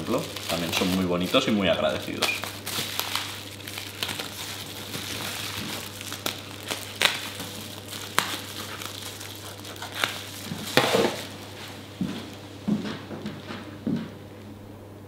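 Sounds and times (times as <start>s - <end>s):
bubble wrap crumpling: 0.0s - 12.4s
bubble wrap crinkling: 0.0s - 12.5s.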